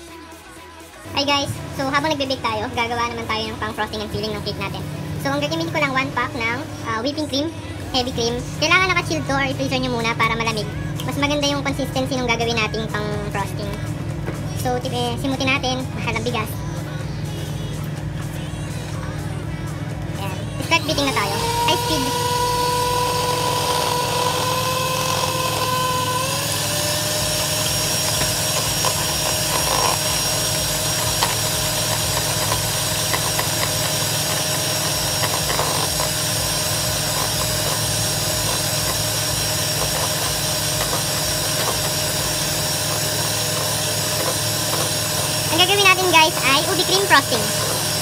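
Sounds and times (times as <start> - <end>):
electric hand mixer whining: 0.0 - 48.0.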